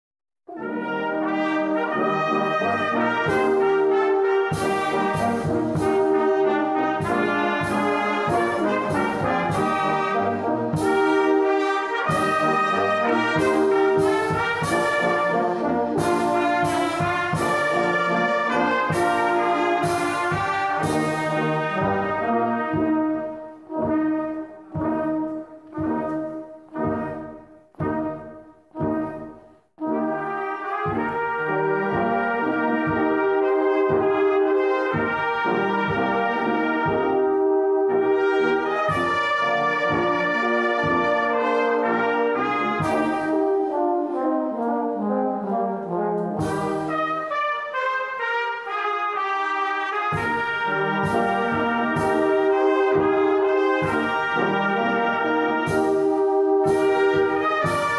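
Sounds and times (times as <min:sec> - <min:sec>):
brass band playing a hymn: 0:00.5 - 0:57.9.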